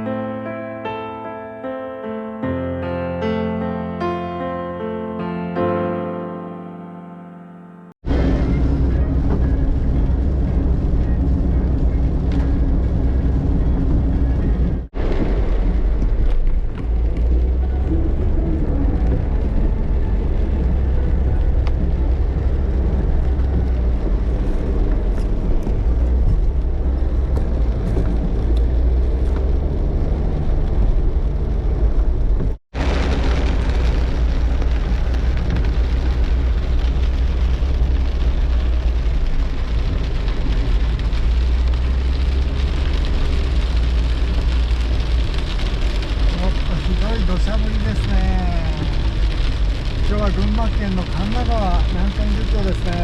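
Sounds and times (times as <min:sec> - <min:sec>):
rain: 0:08.0 - 0:53.0
wind rumble on microphone: 0:08.0 - 0:53.0.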